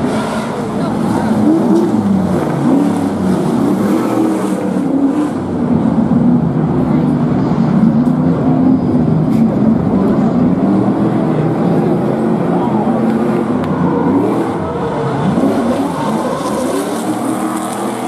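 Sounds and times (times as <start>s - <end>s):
truck engines roaring and revving: 0.0s - 18.0s.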